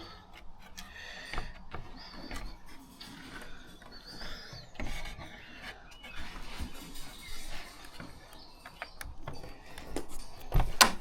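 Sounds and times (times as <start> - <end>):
scraping and rubbing: 0.0 - 10.6
bird chirps: 0.9 - 10.4.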